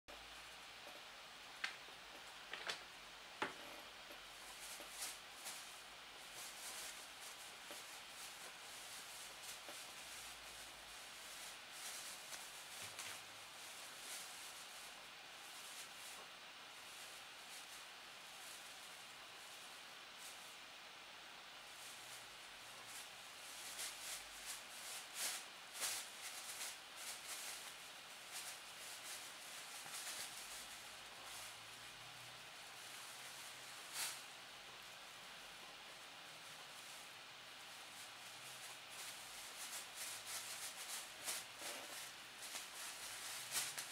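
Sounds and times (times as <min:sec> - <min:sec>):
plastic bag rustling: 0:00.2 - 0:43.9.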